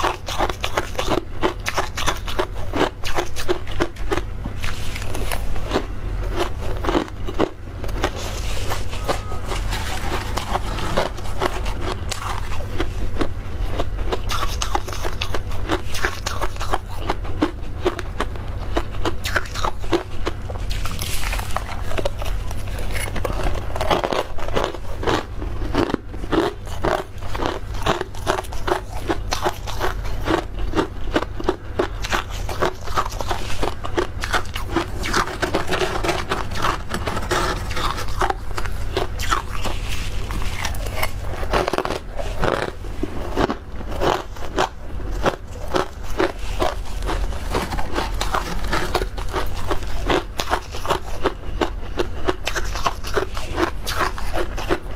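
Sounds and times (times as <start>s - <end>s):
frost being chewed crunching: 0.0s - 54.9s.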